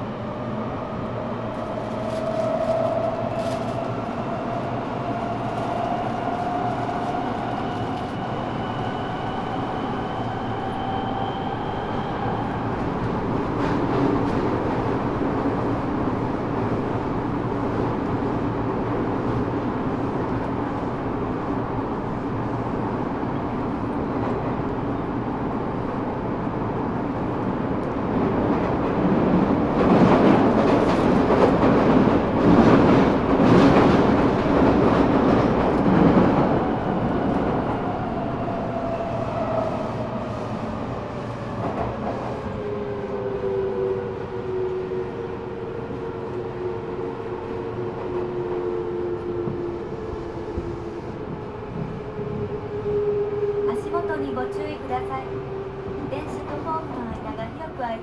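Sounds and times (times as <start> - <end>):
train wheel and track rumble: 0.0 - 58.0.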